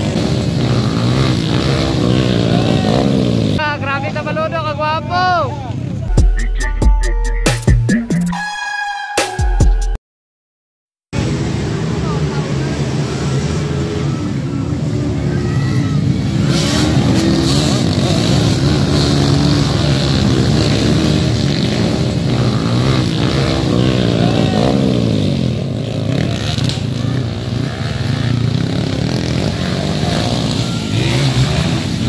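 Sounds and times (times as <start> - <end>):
motorcycle engines revving: 0.0 - 6.2, 11.2 - 32.0.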